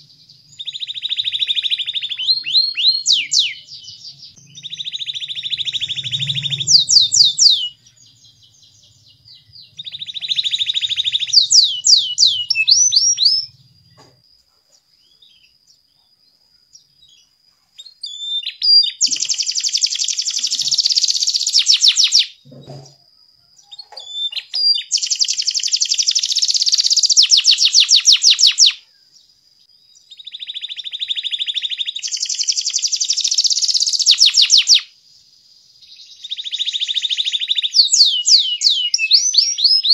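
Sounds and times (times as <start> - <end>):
canary singing: 0.0 - 14.2, 16.7 - 22.9, 23.6 - 28.8, 30.0 - 34.9, 35.8 - 39.9.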